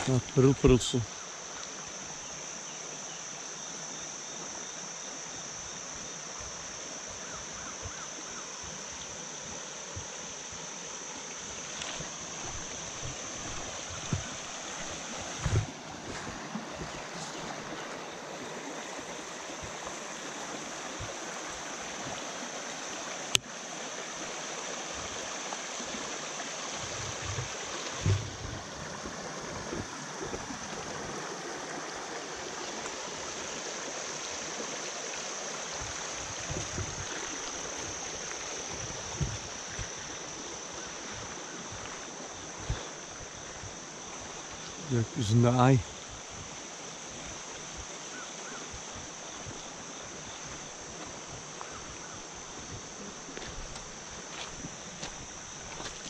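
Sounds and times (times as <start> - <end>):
creek water flowing over stones: 0.0 - 56.0.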